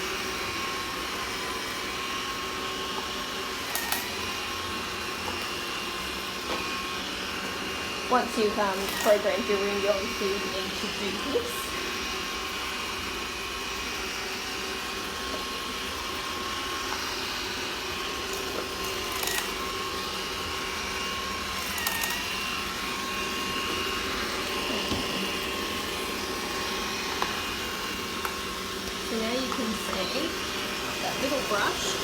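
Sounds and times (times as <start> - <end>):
robot vacuum motor whine: 0.0 - 32.0.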